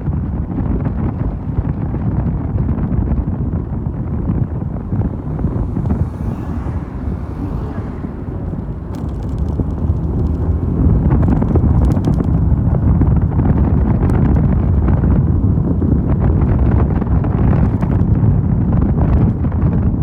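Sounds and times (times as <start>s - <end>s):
motorcycle engine rumble: 0.0s - 20.0s
wind buffeting microphone: 0.0s - 20.0s.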